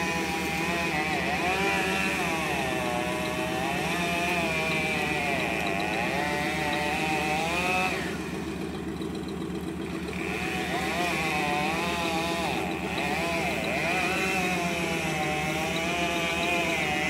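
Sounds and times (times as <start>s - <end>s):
chainsaw revving while cutting: 0.0s - 17.0s.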